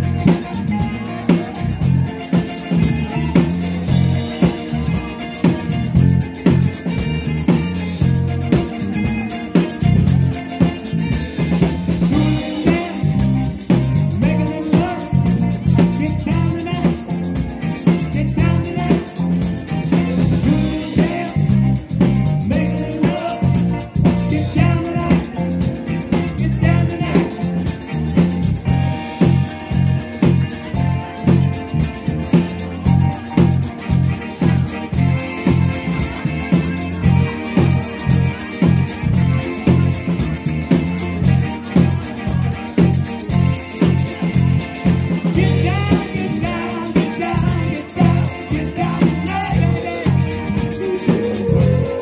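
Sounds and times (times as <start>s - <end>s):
live band playing upbeat groove: 0.0s - 52.0s
pulsing bass line: 0.0s - 52.0s.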